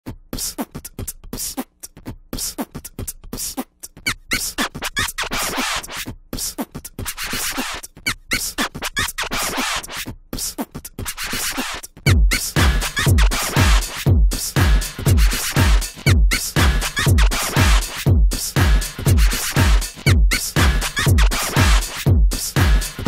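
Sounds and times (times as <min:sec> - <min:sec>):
beatbox-style percussion music: 0:00.0 - 0:23.0.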